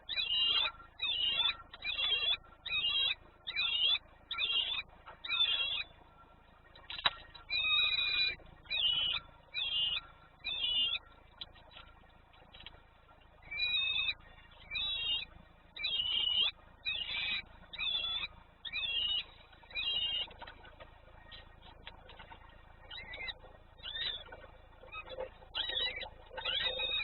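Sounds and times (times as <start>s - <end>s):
bird calls: 0.0s - 27.0s.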